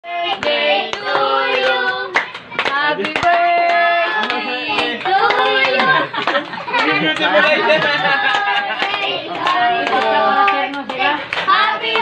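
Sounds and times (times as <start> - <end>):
group singing: 0.0 - 12.0
hands clapping: 0.3 - 12.0.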